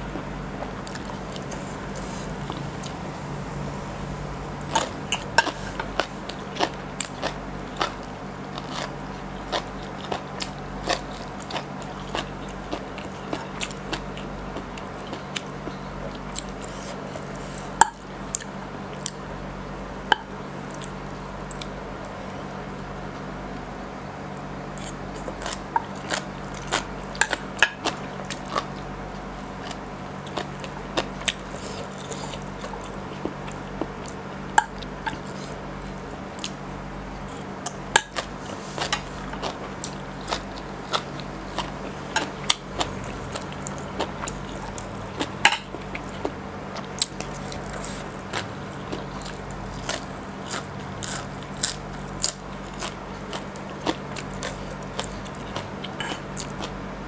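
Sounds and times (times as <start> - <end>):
crunchy chewing of salad: 0.0 - 57.0
steady low hum: 0.0 - 57.0.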